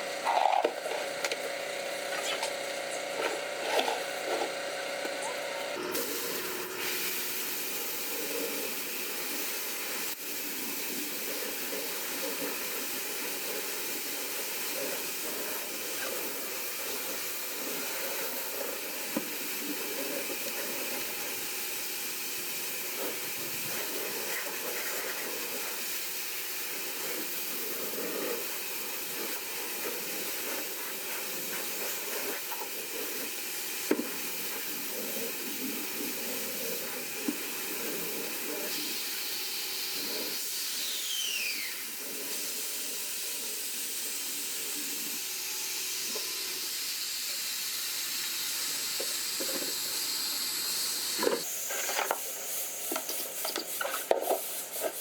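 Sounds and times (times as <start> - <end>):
high-pressure spray jet hissing: 5.3 - 55.0.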